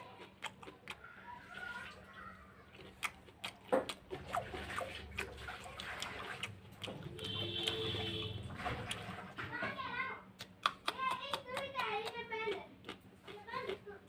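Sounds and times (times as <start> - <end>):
biting and chewing raw food: 0.0 - 14.0.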